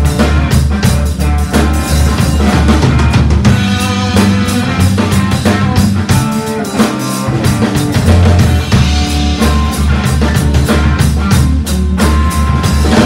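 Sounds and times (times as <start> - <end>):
drum kit beat: 0.0 - 13.0
electric bass: 0.0 - 13.0
electric guitar: 0.0 - 13.0.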